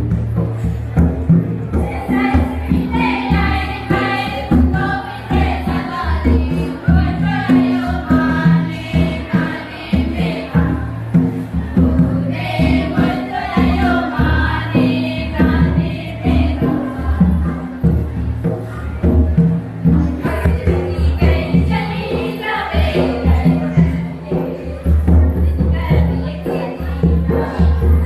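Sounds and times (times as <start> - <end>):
group singing: 1.6 - 18.1, 20.1 - 28.0.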